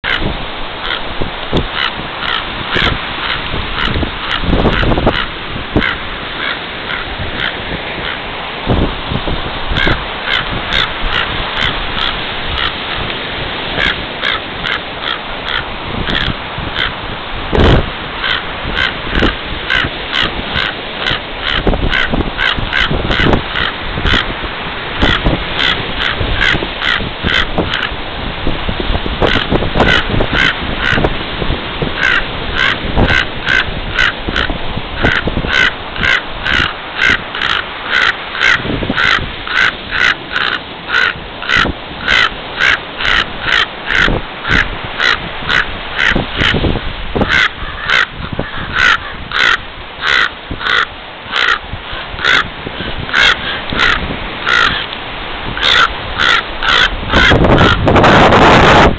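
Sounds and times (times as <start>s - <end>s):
raven cawing: 0.0s - 8.3s, 9.6s - 28.0s, 29.2s - 31.1s, 31.8s - 58.9s.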